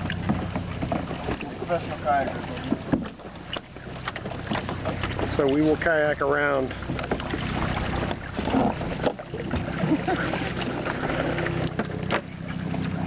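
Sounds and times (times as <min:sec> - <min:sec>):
water around kayak hull: 0:00.0 - 0:13.0.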